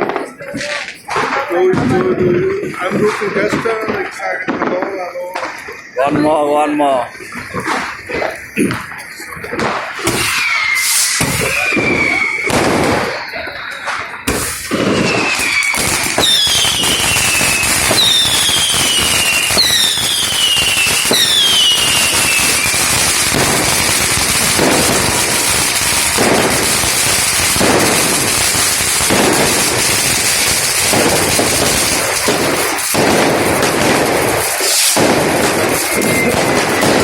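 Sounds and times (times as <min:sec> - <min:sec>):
descending firework whistles: 0:00.0 - 0:37.0
firecrackers crackling and popping: 0:00.0 - 0:37.0
heavy firework bangs: 0:00.0 - 0:37.0.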